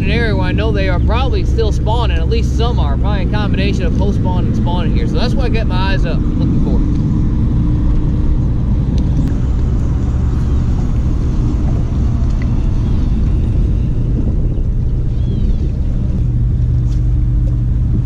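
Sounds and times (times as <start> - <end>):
continuous low hum: 0.0 - 18.0
low rumble: 0.0 - 18.0.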